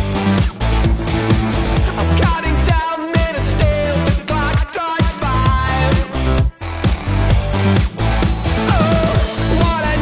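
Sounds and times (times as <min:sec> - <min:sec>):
heavy bass beat: 0:00.0 - 0:10.0
pop dance music: 0:00.0 - 0:10.0.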